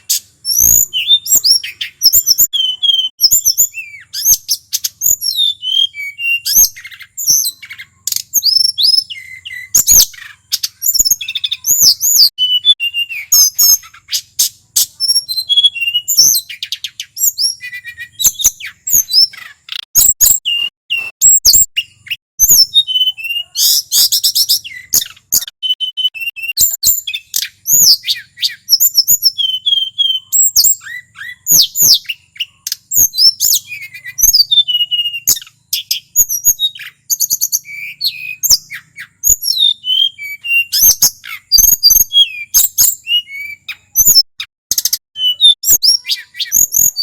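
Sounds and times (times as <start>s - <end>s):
bird singing chirps and whistles: 0.0s - 47.0s.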